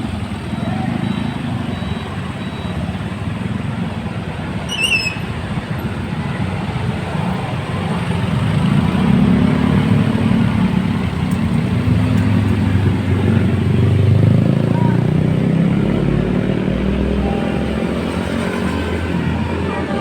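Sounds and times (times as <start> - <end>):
road traffic: 0.0 - 20.0
truck diesel engine rumbling: 0.0 - 20.0.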